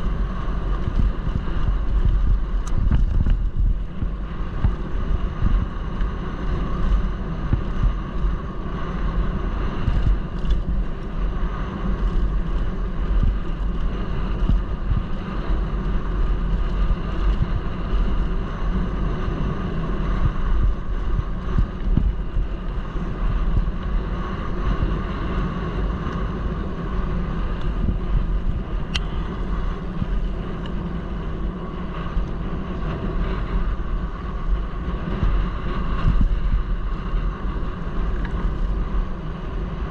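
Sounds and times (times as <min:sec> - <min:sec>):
bike tyres rolling over gravel: 0:00.0 - 0:39.9
wind buffeting microphone: 0:00.0 - 0:39.9.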